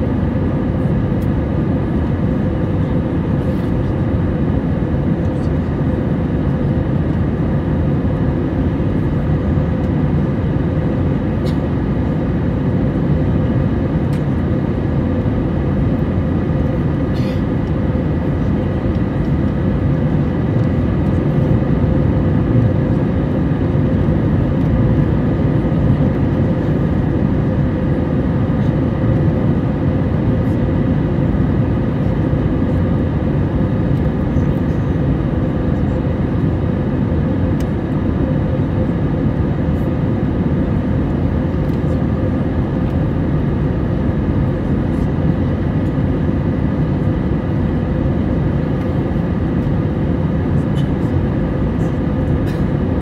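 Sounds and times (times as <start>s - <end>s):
airliner cabin roar: 0.0s - 53.0s.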